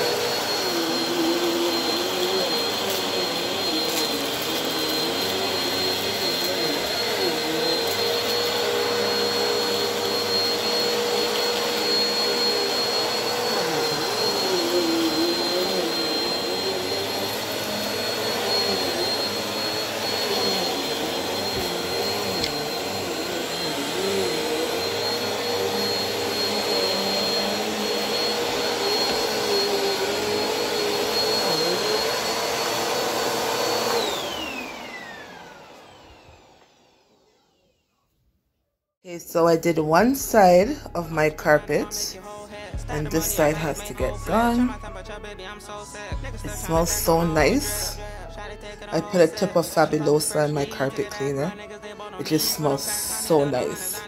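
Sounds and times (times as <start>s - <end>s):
vacuum cleaner whining: 0.0s - 38.0s, 39.2s - 45.1s, 45.7s - 54.0s.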